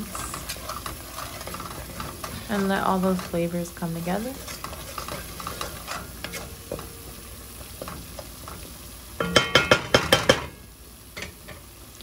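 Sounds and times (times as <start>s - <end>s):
seasonings sizzling in a pot: 0.0s - 12.0s.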